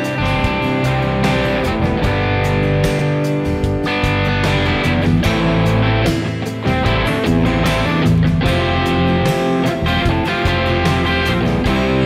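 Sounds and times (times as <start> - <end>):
overdriven electric guitar strumming: 0.0 - 12.0.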